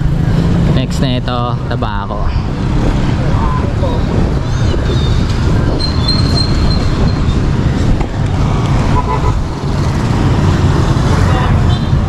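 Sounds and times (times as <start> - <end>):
passing vehicles rumbling: 0.0 - 12.0
wind: 0.0 - 12.0.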